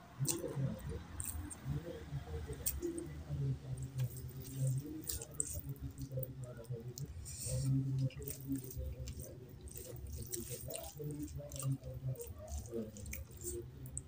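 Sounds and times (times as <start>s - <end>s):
food squishing by hand: 0.0s - 14.0s
chewing and wet mouth smacks: 0.1s - 14.0s.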